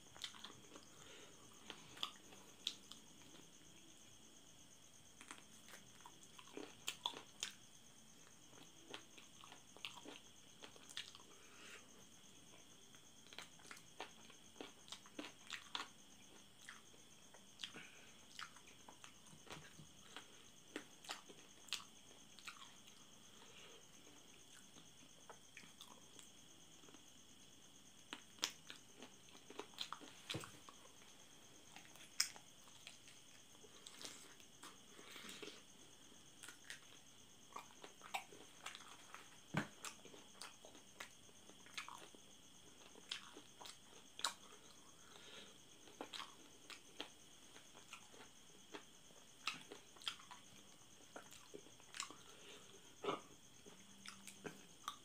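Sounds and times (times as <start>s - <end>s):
person chewing crunchy food: 0.0s - 3.5s, 5.2s - 7.6s, 8.2s - 11.4s, 13.2s - 27.1s, 28.0s - 55.0s
faint steady hiss: 0.0s - 55.0s.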